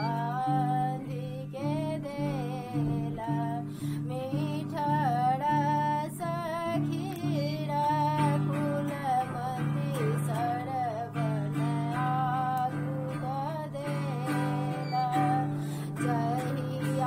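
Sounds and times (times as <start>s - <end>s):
instrumental backing chords: 0.0s - 17.0s
woman singing folk song: 0.0s - 17.0s.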